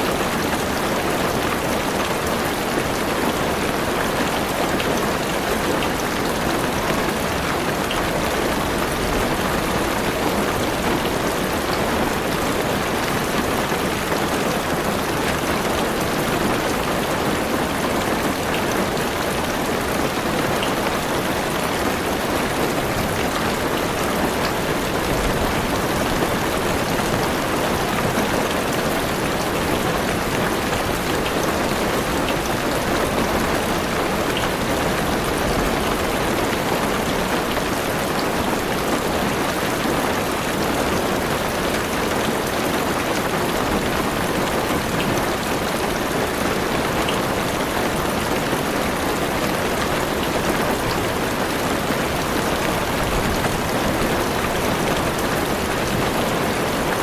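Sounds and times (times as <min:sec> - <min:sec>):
heavy rain on car roof: 0:00.0 - 0:57.0.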